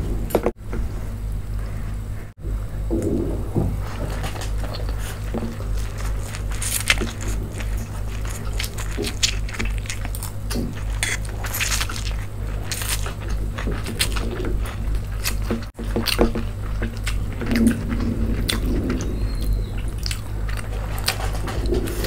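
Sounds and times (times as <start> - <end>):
low hum: 0.0 - 22.0
chewing and slurping noodles: 3.9 - 22.0.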